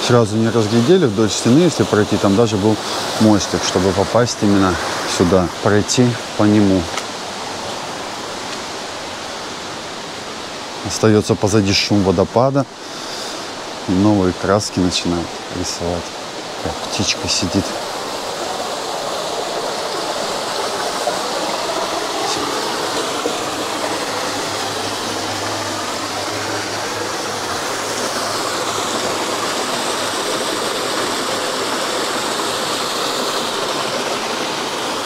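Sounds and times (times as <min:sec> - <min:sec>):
stream running over rocks: 0:00.0 - 0:35.0.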